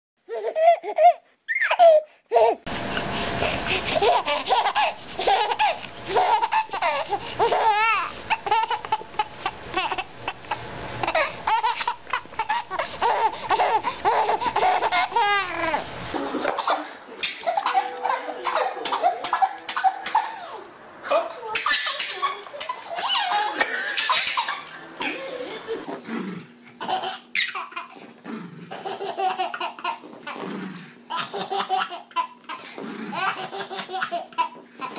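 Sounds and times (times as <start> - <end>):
babies laughing hysterically: 0.3 - 2.7, 3.9 - 15.6, 16.6 - 20.7, 21.5 - 25.9, 26.7 - 28.0, 28.7 - 30.0, 31.1 - 32.6, 33.2 - 34.9.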